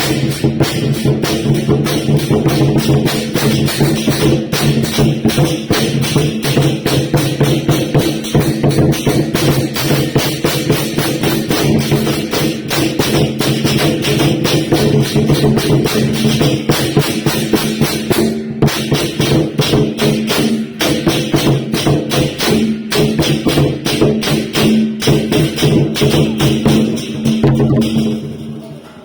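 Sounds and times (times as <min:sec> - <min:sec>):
rapid cymbal and drum strikes: 0:00.0 - 0:29.0.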